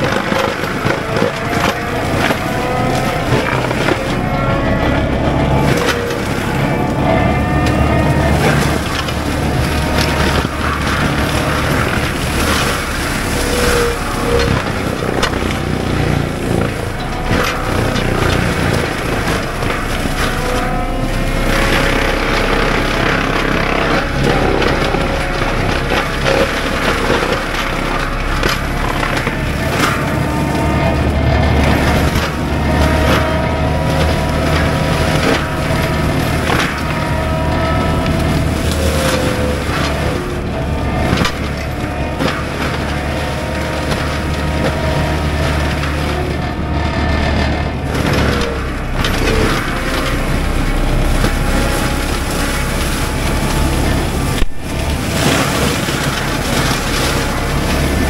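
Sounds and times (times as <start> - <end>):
heavy engine and mulcher drone: 0.0 - 58.0
whine drifting in pitch: 0.0 - 58.0
wood cracking: 0.0 - 58.0.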